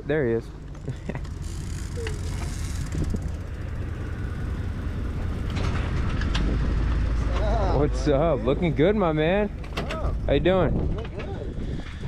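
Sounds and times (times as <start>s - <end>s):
van engine rumbling: 0.0s - 12.0s.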